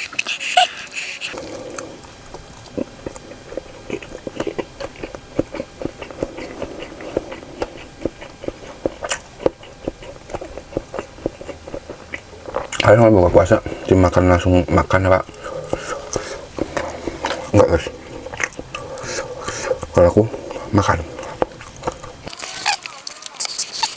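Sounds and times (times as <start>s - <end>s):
person chewing food: 0.0s - 12.9s, 15.2s - 23.9s.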